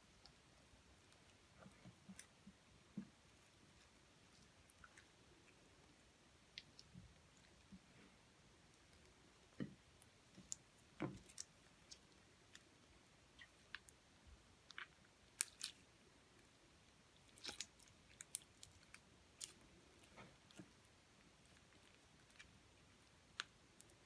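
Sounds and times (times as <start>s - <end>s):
slime squishing by hand: 0.0s - 24.0s.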